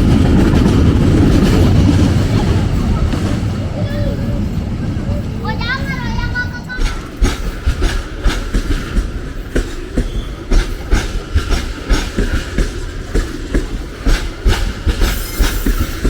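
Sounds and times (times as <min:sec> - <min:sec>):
train wheels rumbling on rail: 0:00.0 - 0:16.0
wheel clack over rail joints: 0:00.0 - 0:16.0.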